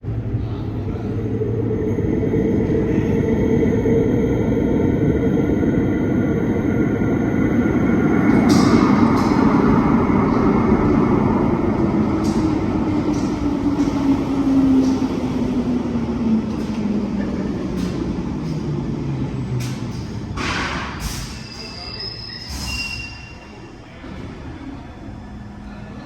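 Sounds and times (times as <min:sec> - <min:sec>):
train rumble with falling whine: 0:00.0 - 0:21.0.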